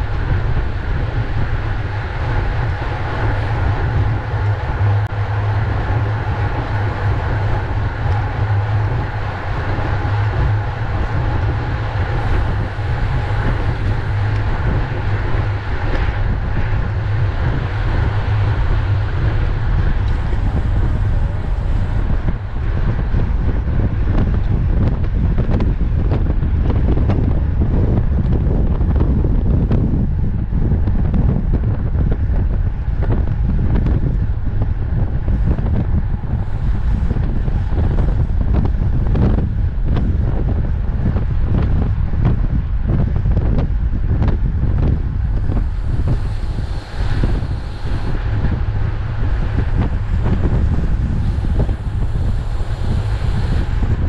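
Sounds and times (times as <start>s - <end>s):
low rumble: 0.0s - 54.0s
wind buffeting microphone: 0.0s - 54.0s.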